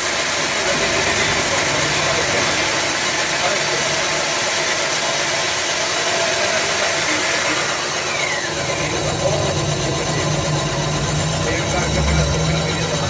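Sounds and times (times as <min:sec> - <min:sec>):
boring machine motor running: 0:00.0 - 0:13.0.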